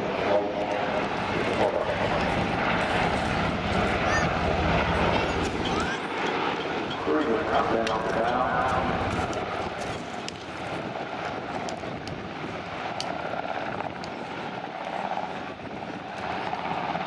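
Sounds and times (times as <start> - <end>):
helicopter droning: 0.0 - 17.0.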